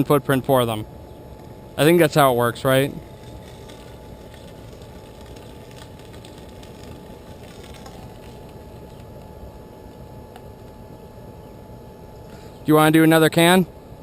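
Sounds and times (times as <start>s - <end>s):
faint steady whine: 0.0s - 14.0s
furnace roaring: 0.0s - 14.0s.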